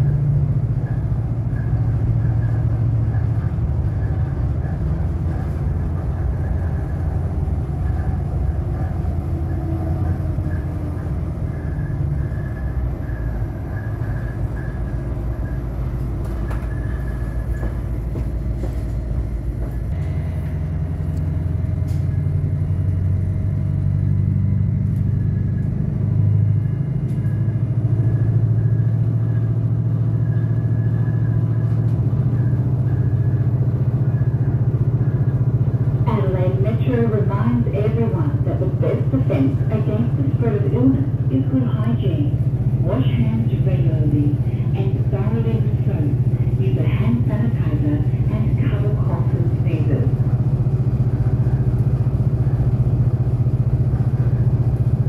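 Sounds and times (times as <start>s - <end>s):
railcar engine and wheels rumbling: 0.0s - 55.0s.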